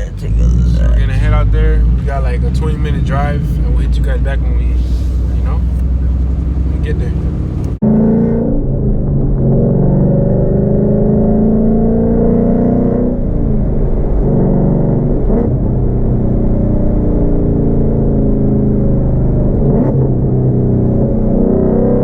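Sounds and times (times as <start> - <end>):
car engine under load: 0.0 - 22.0.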